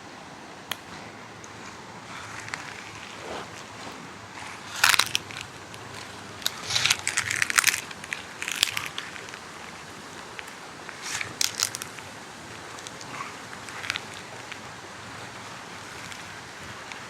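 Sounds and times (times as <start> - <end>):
soft background hiss: 0.0 - 17.0
footsteps crunching on dry leaves: 1.6 - 17.0.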